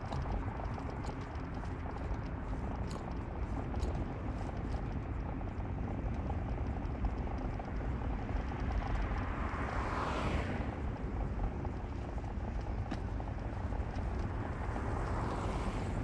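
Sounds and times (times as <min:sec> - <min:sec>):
car engine and tyres rumble: 0:00.0 - 0:16.0.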